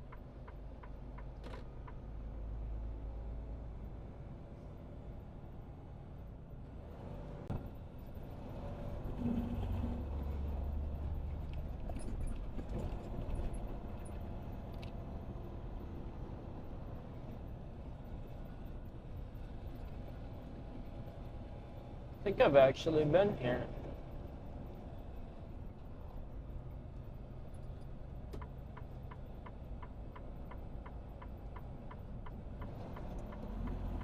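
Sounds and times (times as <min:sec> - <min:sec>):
truck engine rumble: 0:00.0 - 0:34.0.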